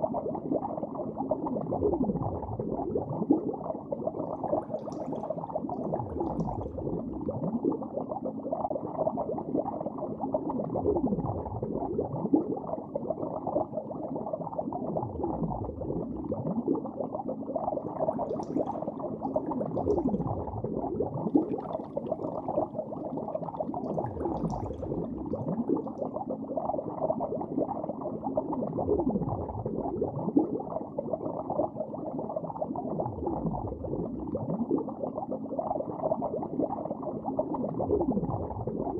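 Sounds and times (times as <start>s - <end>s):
bubbling underwater rumble: 0.0s - 38.9s.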